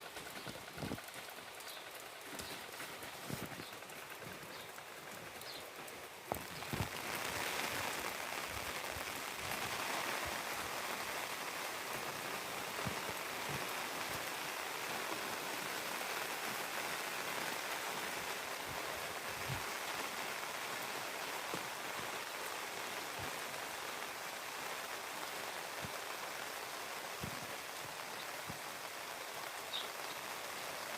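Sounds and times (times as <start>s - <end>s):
steady rain: 0.0s - 30.9s.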